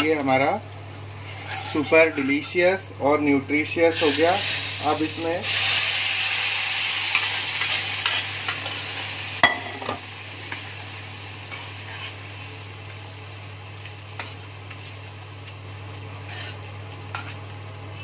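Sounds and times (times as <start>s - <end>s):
hot oil sizzling in dal: 0.1s - 2.5s, 3.8s - 18.0s.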